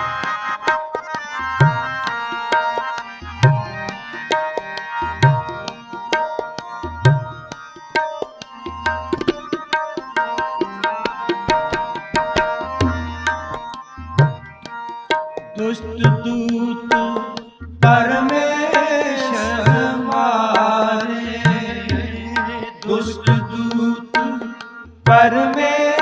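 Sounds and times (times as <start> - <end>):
sustained harmonium notes: 0.0 - 26.0
tabla playing: 0.0 - 26.0.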